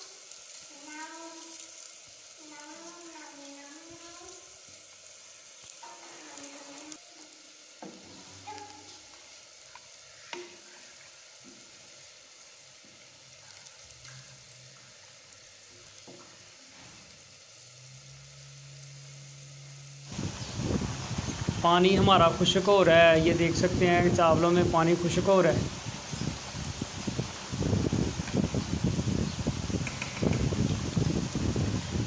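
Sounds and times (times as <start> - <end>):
water boiling and bubbling: 0.0 - 32.0.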